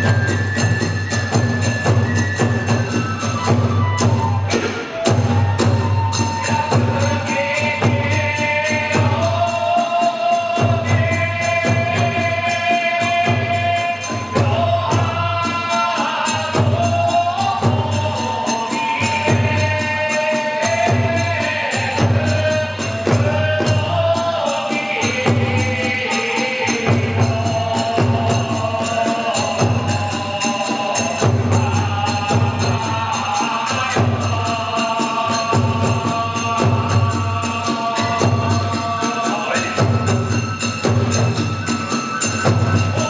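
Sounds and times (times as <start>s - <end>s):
barrel drum beats: 0.0s - 43.0s
hand cymbals clashing: 0.0s - 43.0s
shrill bamboo flute melody: 0.0s - 43.0s.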